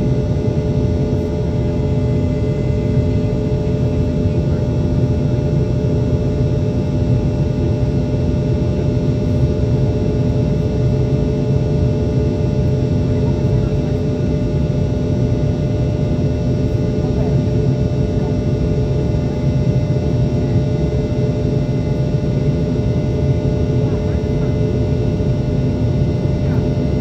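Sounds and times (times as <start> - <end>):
jet engine drone in cabin: 0.0 - 27.0.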